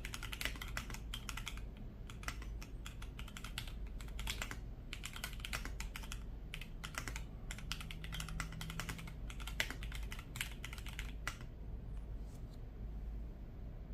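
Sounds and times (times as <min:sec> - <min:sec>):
mechanical keyboard typing: 0:00.0 - 0:11.6.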